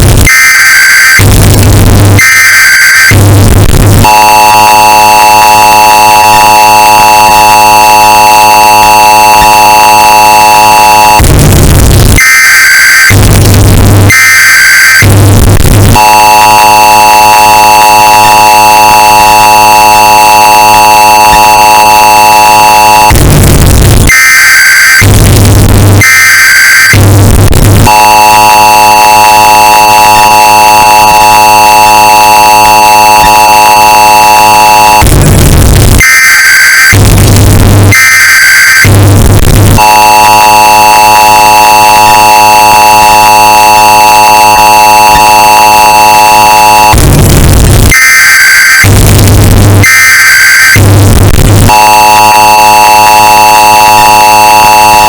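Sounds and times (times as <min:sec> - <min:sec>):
distorted emergency attention tone: 0:00.0 - 0:55.0
harsh data bursts: 0:02.1 - 0:47.2, 0:48.0 - 0:55.0.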